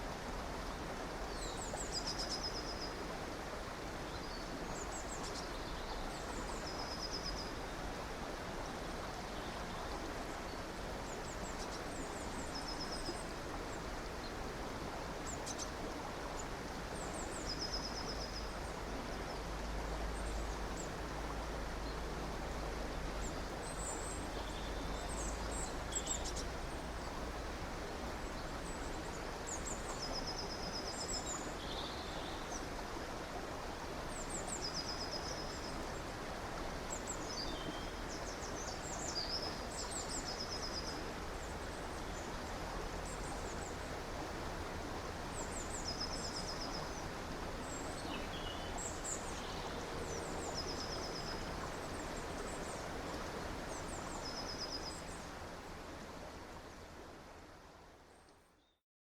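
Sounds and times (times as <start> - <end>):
stream running: 0.0 - 58.8.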